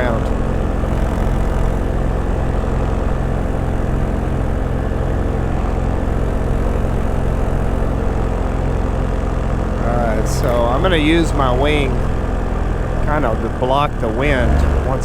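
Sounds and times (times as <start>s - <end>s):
paramotor engine droning: 0.0s - 15.0s.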